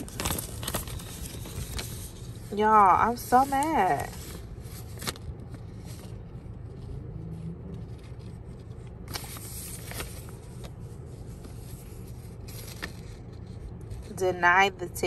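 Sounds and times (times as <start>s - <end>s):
paper ticket rustling: 0.0s - 6.9s, 7.8s - 14.4s
low hum inside car: 0.0s - 15.0s.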